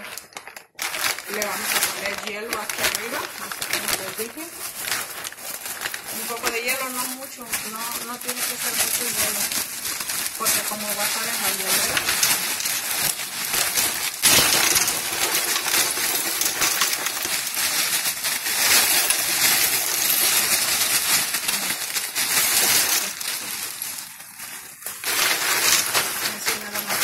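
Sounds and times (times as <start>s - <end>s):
ice clattering into metal pot: 0.0s - 27.0s.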